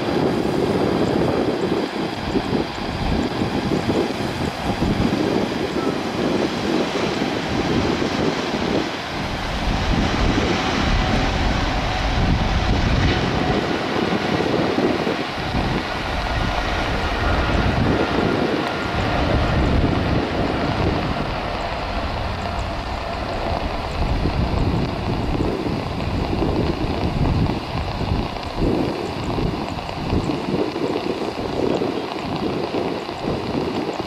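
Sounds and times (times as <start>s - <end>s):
jet engine roar: 0.0s - 34.0s
wind buffeting microphone: 0.0s - 34.0s.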